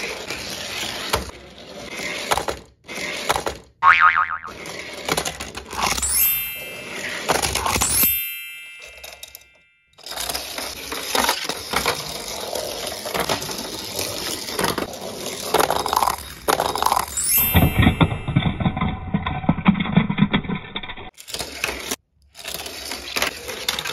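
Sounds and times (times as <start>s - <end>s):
toy cars clattering down plastic ramp: 0.0s - 3.8s, 4.5s - 6.1s, 8.9s - 23.9s.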